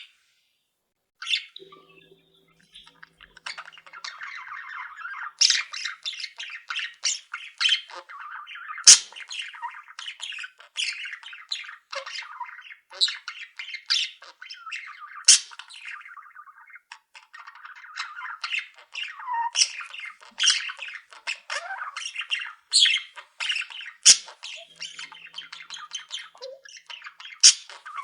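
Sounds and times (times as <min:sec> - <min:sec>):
caged birds chattering and chirping: 0:01.2 - 0:28.0.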